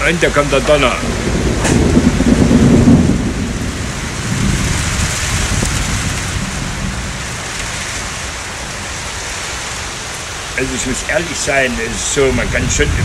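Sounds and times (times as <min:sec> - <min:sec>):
heavy rain falling: 0:00.0 - 0:13.0
thunder rumbling: 0:00.0 - 0:13.0.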